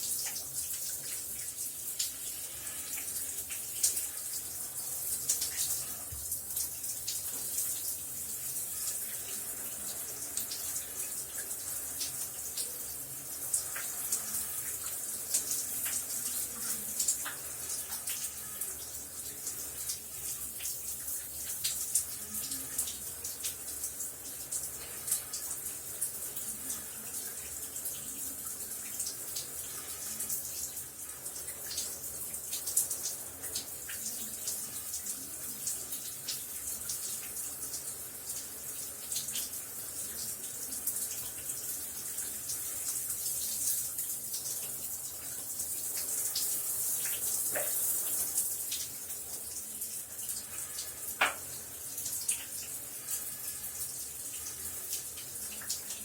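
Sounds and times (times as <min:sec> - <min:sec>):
shower spray hissing: 0:00.0 - 0:56.0.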